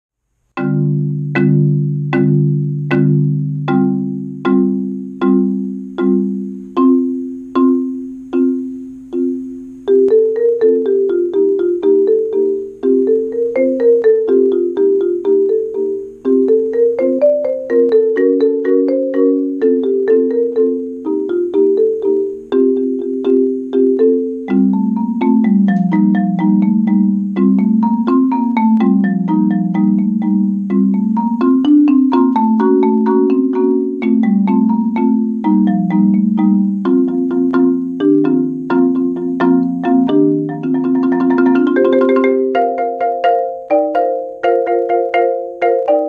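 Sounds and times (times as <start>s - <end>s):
marimba chords: 0.5s - 46.0s.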